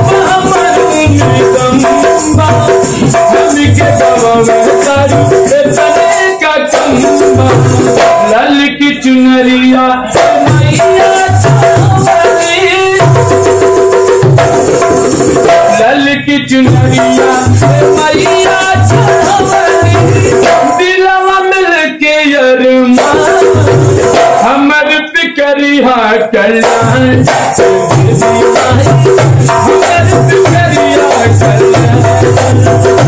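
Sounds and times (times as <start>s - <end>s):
hand drum rhythm: 0.0s - 8.5s, 10.1s - 21.0s, 22.9s - 24.6s, 26.5s - 33.0s
man singing devotional song: 0.0s - 33.0s.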